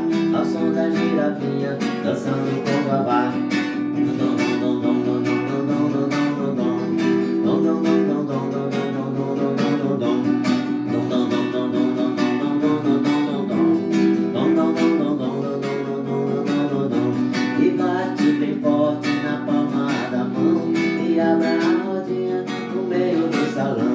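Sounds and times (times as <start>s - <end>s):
strummed guitar: 0.0s - 23.9s.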